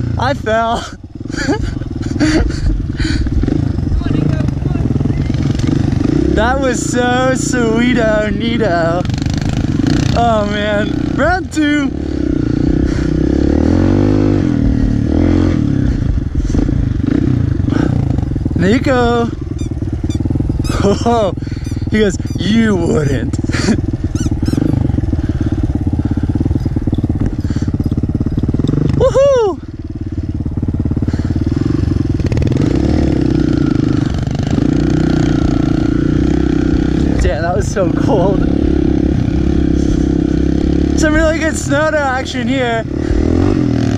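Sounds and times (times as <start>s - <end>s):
motorbike engine revving: 0.0s - 43.9s.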